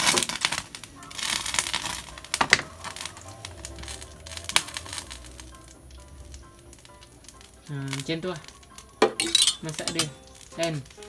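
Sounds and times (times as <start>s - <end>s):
hot oil crackling and sizzling: 0.0s - 11.0s.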